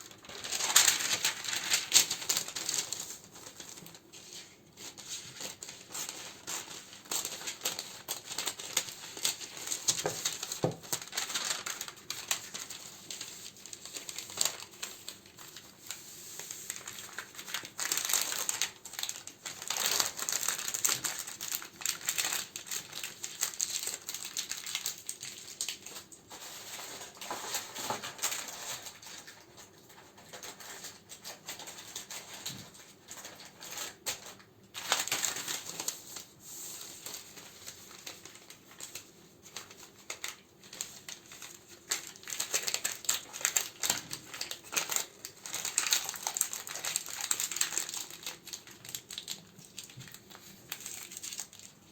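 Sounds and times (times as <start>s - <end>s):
packaging crinkling and rustling: 0.0s - 51.9s.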